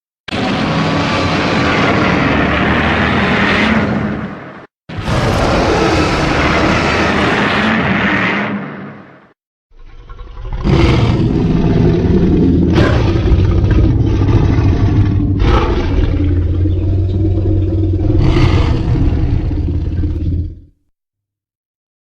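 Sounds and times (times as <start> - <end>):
deep rumbling creature growl: 0.3 - 20.8.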